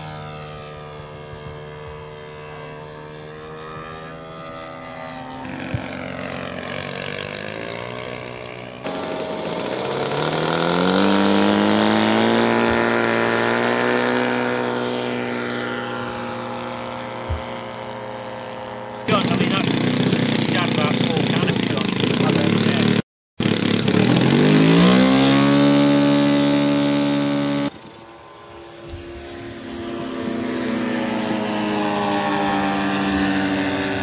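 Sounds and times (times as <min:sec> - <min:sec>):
model aircraft engines flying past: 0:00.0 - 0:34.0.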